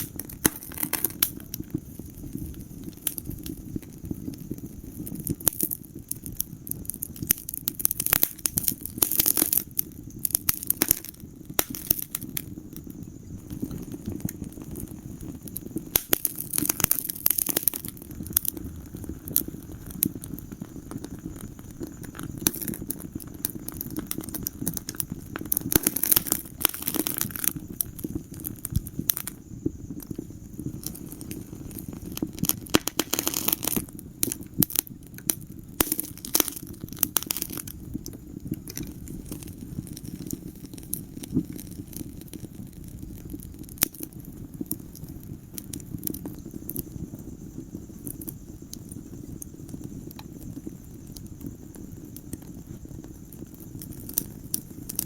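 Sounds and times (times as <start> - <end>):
fire crackling and popping: 0.0 - 55.0
low rumble of flames: 0.0 - 55.0.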